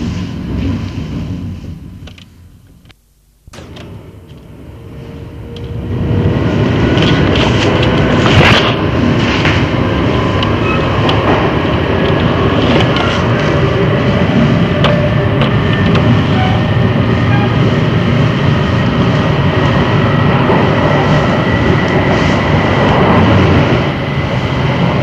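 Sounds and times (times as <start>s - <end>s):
electric train rumbling: 0.0s - 25.0s.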